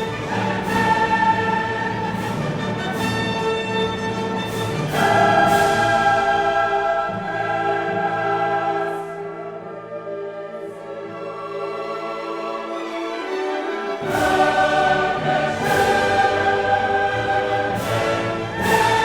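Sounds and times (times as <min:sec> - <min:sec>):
choir singing held chords: 0:00.0 - 0:03.0, 0:04.6 - 0:19.0
orchestra playing: 0:00.0 - 0:19.0.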